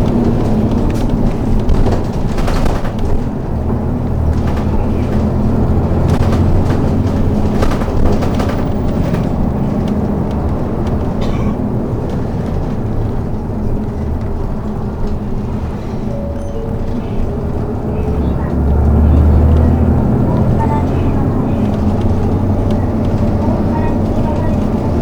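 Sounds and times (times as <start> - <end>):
bus engine rumbling: 0.0 - 25.0
clicks and rattles of bus body: 0.0 - 25.0
road noise: 0.0 - 25.0.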